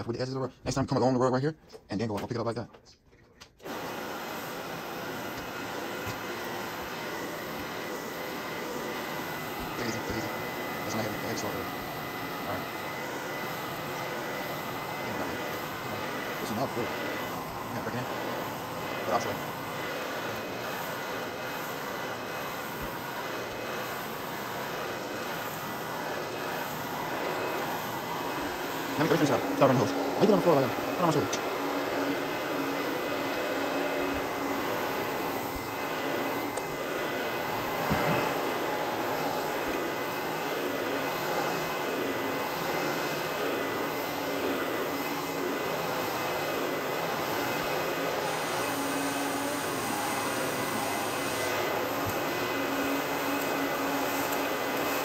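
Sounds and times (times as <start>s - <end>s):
carpet machine whirring: 3.6s - 55.0s.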